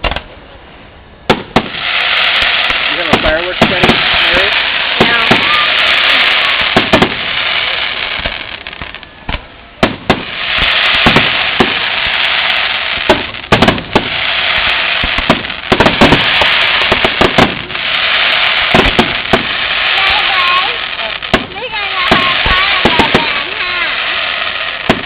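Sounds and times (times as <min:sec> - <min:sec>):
steady hiss: 0:00.0 - 0:25.0
fireworks bangs and pops: 0:01.3 - 0:25.0.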